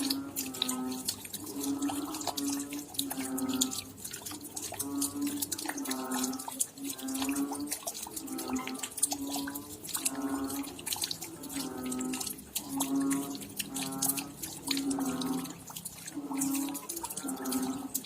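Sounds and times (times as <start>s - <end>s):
rain patter and dripping: 0.0s - 18.0s.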